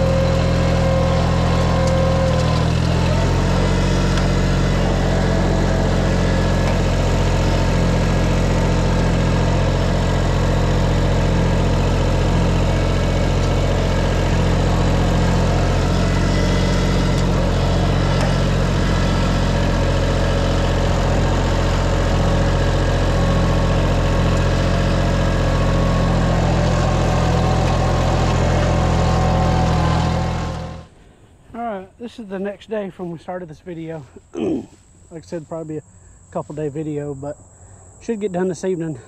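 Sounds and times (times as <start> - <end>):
tractor engine running: 0.0 - 31.4.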